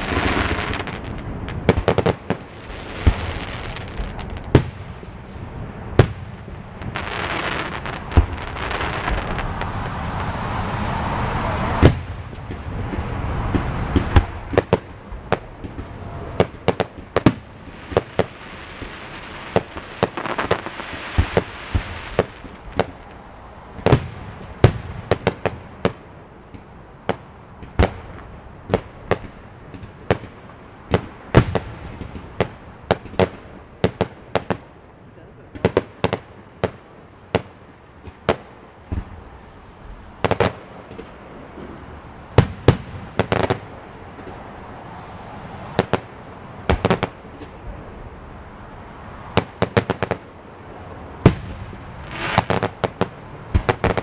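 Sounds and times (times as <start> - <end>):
fireworks bang: 0.0 - 34.6, 35.5 - 44.5, 51.2 - 54.0
fireworks popping: 0.0 - 34.6, 35.4 - 44.5, 45.6 - 47.8, 51.2 - 54.0.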